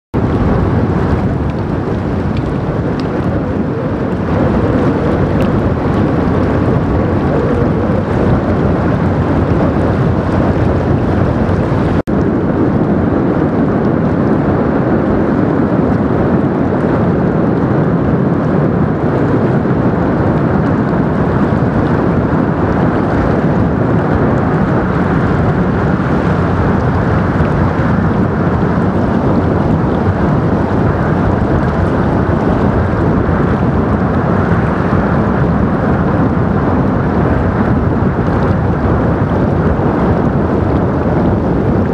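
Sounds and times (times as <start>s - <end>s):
wind buffeting microphone: 0.1s - 41.9s.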